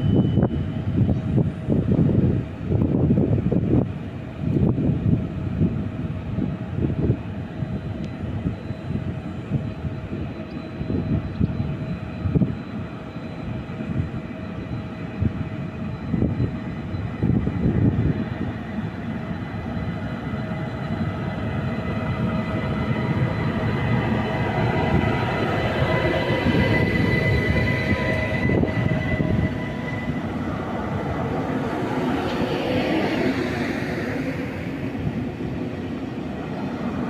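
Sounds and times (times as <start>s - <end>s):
electric train rumble: 0.0s - 37.0s
train whine: 0.0s - 37.0s.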